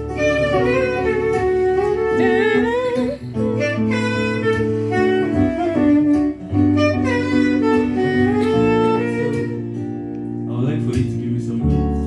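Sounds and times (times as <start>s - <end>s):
saxophone line: 0.0s - 10.1s
keyboard chords: 0.0s - 12.0s.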